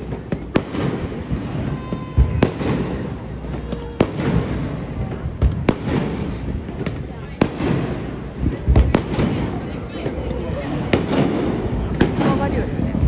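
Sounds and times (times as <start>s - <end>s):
fireworks cracking: 0.0s - 13.0s
low fireworks booms: 0.0s - 13.0s
murmur of voices: 0.0s - 13.0s.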